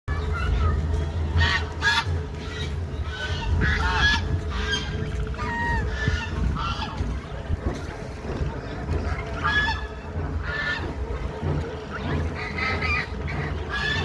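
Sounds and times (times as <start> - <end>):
steady low rumble: 0.1 - 14.0
waterfowl calling: 1.3 - 14.0.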